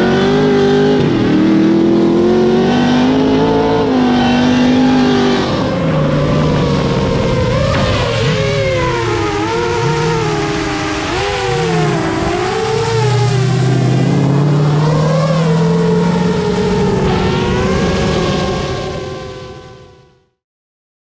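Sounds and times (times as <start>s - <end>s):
car engine revving: 0.0s - 20.1s.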